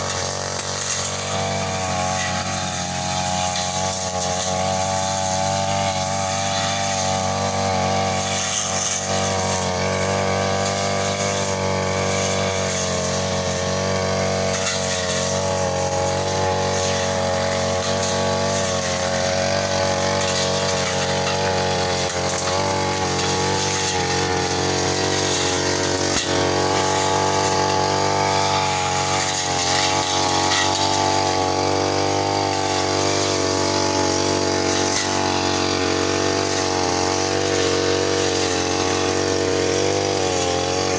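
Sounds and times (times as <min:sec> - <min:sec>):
brush cutter engine at high revs: 0:00.0 - 0:40.9.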